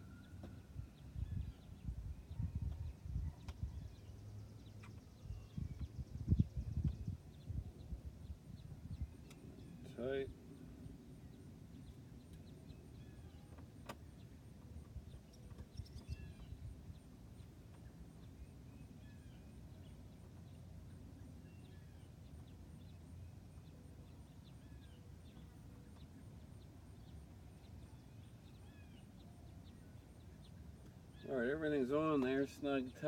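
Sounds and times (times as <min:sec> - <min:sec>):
faint bird chirps: 0:00.0 - 0:14.4, 0:15.0 - 0:33.0
low steady rumble: 0:00.0 - 0:33.0.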